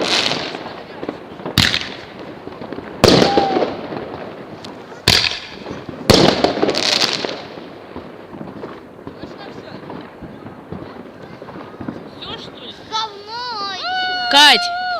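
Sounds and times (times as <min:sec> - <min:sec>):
fireworks bangs with crackle: 0:00.0 - 0:14.9.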